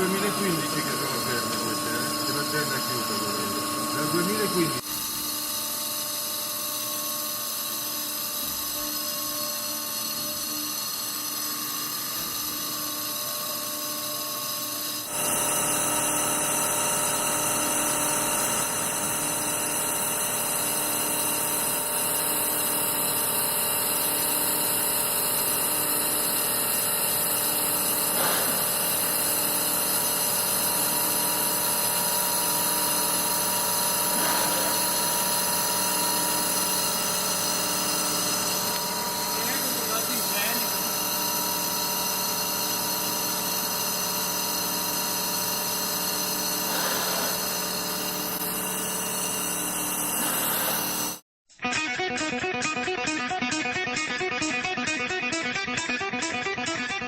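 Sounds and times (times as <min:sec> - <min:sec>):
press brake machine whine: 0:00.0 - 0:51.2.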